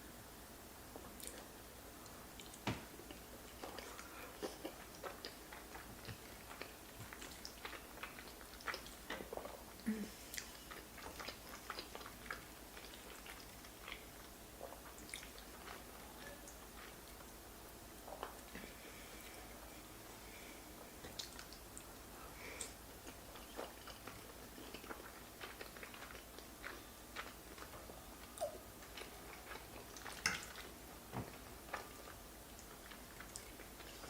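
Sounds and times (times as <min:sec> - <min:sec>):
person chewing food: 0:00.9 - 0:34.0.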